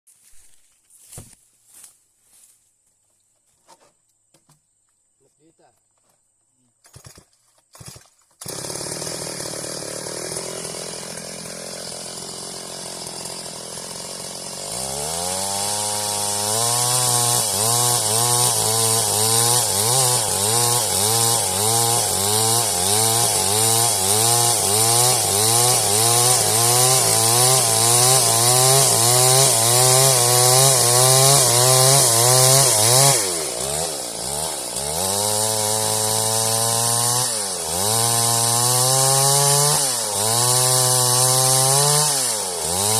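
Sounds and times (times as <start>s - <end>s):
chainsaw cutting wood: 6.8s - 42.9s.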